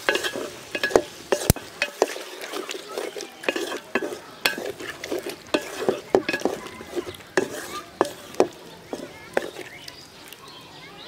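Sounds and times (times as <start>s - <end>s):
spatula scraping a metal pot: 0.0s - 9.9s.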